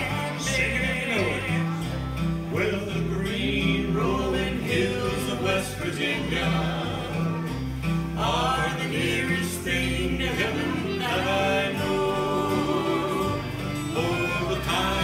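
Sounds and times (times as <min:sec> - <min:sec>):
person singing: 0:00.0 - 0:07.6, 0:08.2 - 0:15.0
acoustic guitar: 0:00.0 - 0:15.0
mandolin: 0:00.0 - 0:15.0.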